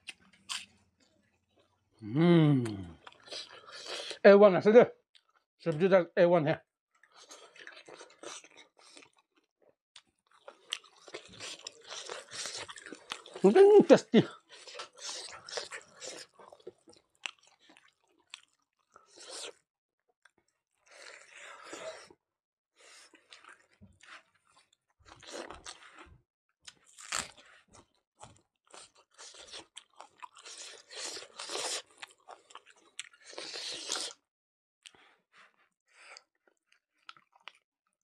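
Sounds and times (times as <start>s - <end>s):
chewing and crunching: 0.0s - 1.9s, 2.6s - 4.2s, 6.9s - 19.6s, 22.8s - 34.2s, 34.8s - 38.0s.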